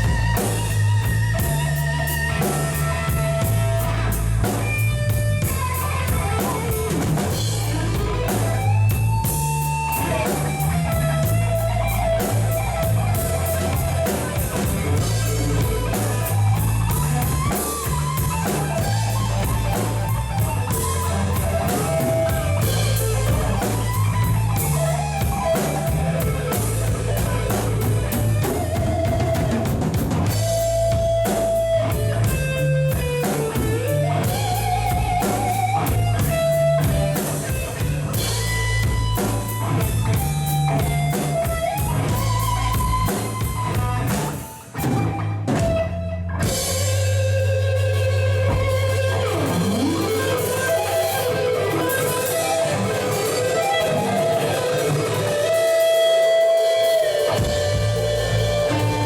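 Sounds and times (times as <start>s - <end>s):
lead electric guitar: 0.0s - 59.0s
rock band music: 0.0s - 59.0s.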